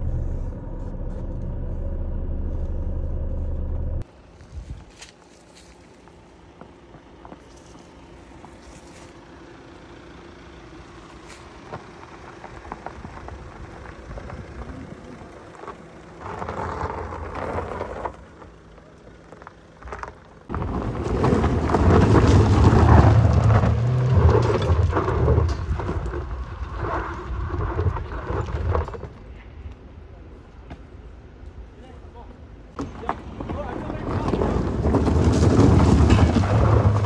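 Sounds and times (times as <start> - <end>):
car engine rumbling under load: 0.0 - 37.0.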